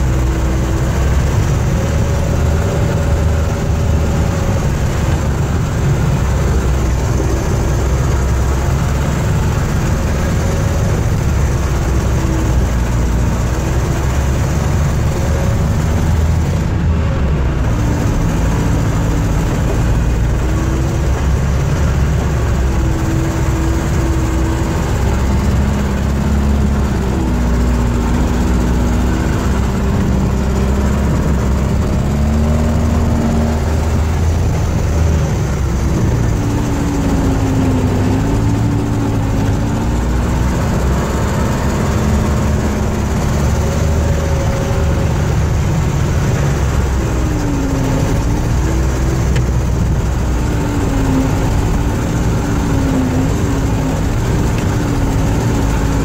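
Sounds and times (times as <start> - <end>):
snowcat engine droning: 0.0 - 56.0.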